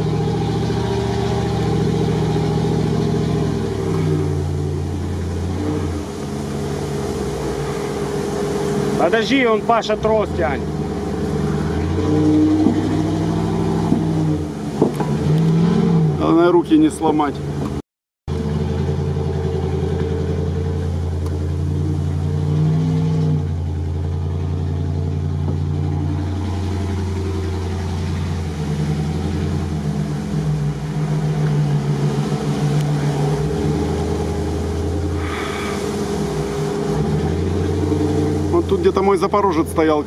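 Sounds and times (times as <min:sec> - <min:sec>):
pickup truck engine revving: 0:00.0 - 0:40.0.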